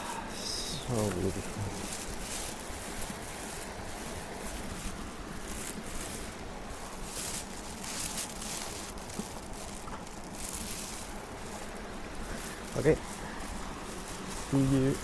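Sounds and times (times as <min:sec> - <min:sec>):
rustling vegetation: 0:00.0 - 0:15.0.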